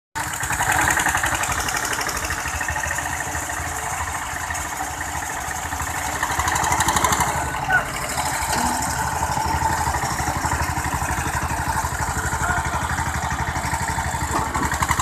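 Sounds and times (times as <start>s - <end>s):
tractor engines chugging: 0.2s - 15.0s.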